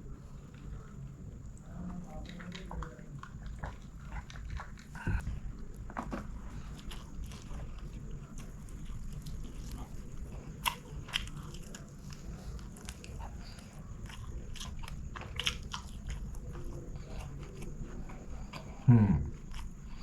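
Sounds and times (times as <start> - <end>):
person chewing food: 2.2 - 20.0.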